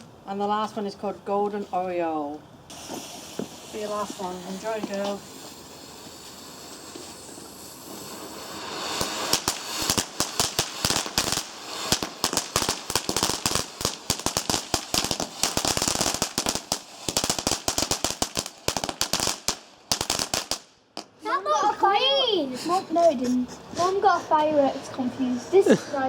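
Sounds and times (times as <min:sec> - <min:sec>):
firework crackling and popping: 0:00.0 - 0:21.2
firework hissing: 0:00.0 - 0:21.2.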